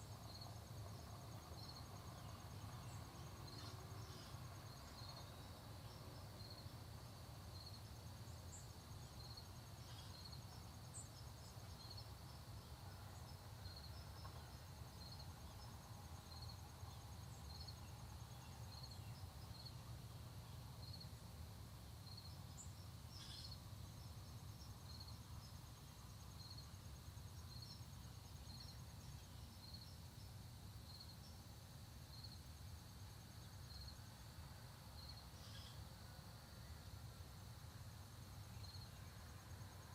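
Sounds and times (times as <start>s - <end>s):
insects trilling: 0.0s - 21.3s, 21.9s - 39.9s.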